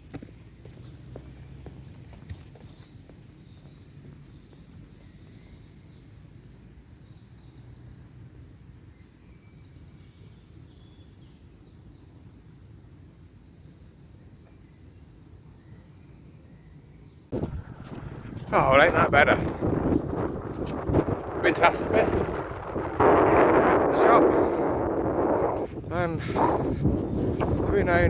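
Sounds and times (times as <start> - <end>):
songbirds chirping and trilling: 0.6 - 28.0.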